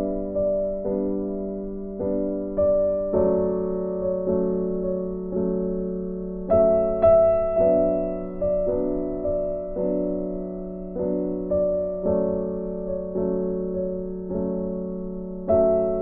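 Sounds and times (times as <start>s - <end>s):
soft slow piano: 0.0s - 16.0s.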